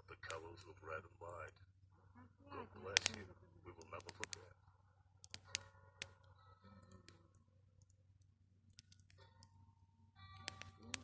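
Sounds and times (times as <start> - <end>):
campfire crackling and popping: 0.0 - 1.8, 2.6 - 9.6, 10.3 - 11.0.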